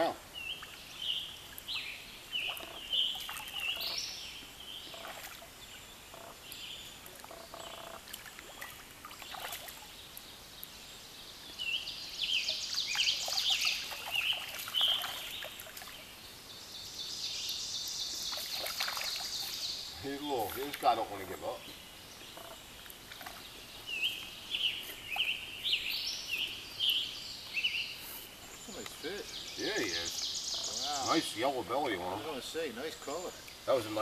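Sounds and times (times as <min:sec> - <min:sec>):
shallow stream running: 0:00.0 - 0:34.0
songbirds chirping: 0:00.0 - 0:34.0.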